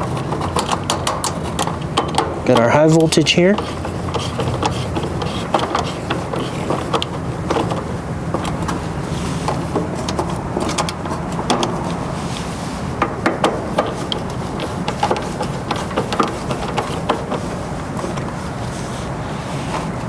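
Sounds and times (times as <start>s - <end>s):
tools clicking and tapping: 0.0s - 8.8s, 9.5s - 12.0s, 13.0s - 18.4s
low background hum: 0.0s - 20.0s.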